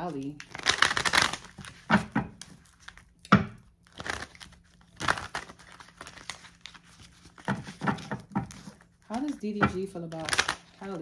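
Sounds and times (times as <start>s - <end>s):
cards being shuffled: 0.0s - 3.1s, 3.8s - 11.0s.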